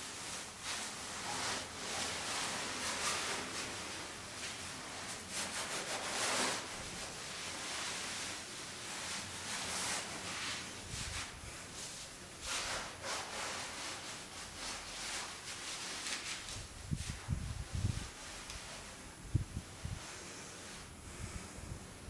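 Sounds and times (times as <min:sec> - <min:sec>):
cloth rustling: 0:00.0 - 0:20.9.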